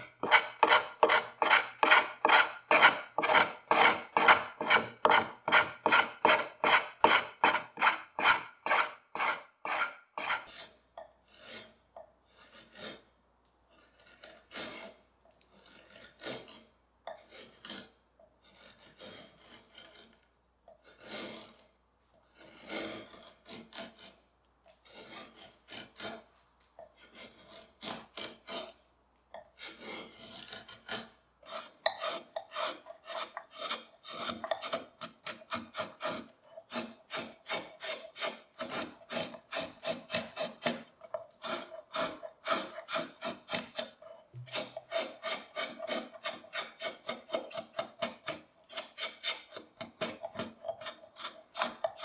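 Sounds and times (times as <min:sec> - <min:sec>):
carving tools scraping wood: 0:00.0 - 0:52.0.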